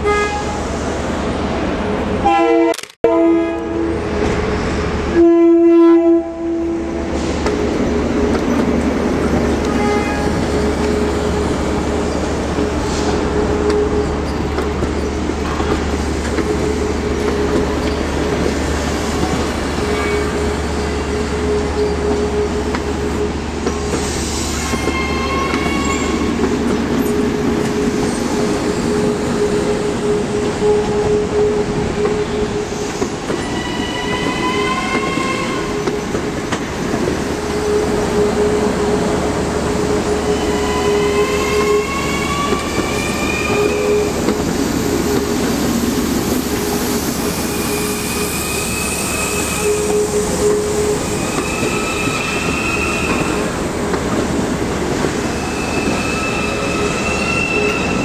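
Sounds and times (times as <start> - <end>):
train rolling over rails: 6.6 - 58.0
wheels squealing on rails: 7.0 - 58.0.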